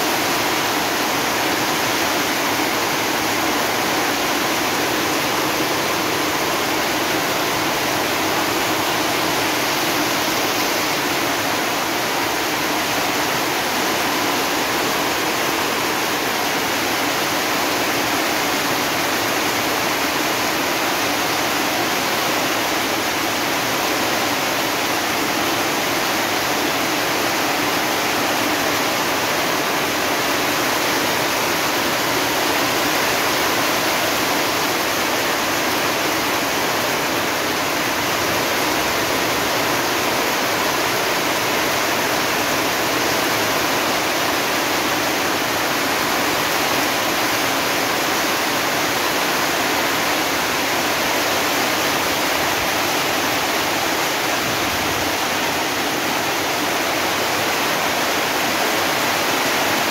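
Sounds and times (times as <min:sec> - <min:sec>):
heavy rain on metal roofs: 0:00.0 - 0:59.9.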